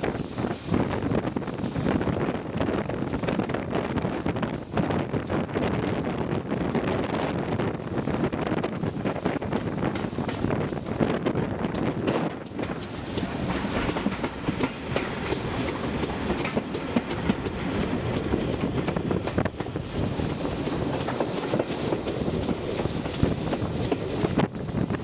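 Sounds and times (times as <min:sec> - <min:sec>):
train carriages rumbling: 0:00.0 - 0:25.0
wheels clattering over rail joints: 0:00.0 - 0:25.0.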